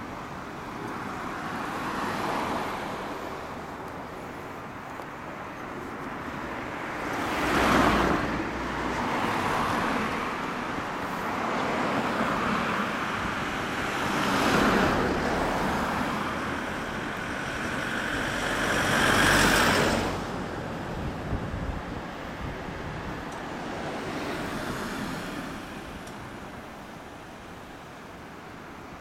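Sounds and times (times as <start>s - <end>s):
vehicles passing by: 0.0s - 29.0s.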